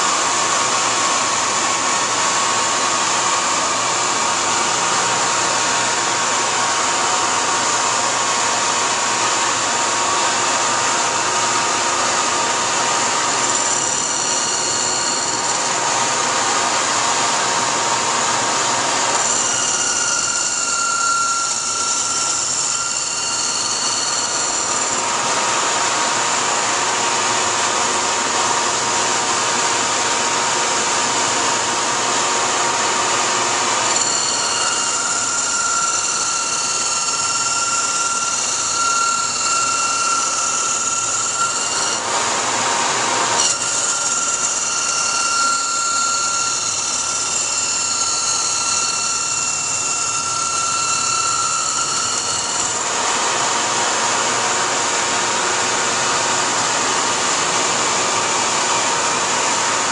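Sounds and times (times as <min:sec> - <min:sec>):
lathe cutting whine: 0:00.0 - 0:59.9.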